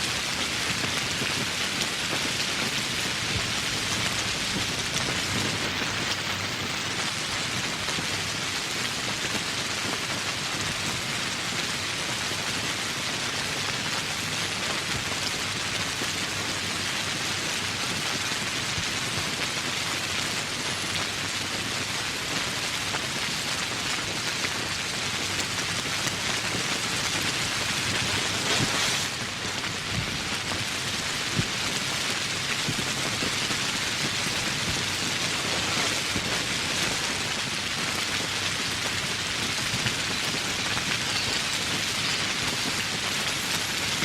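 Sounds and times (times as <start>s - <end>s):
dense rain falling: 0.0s - 44.0s.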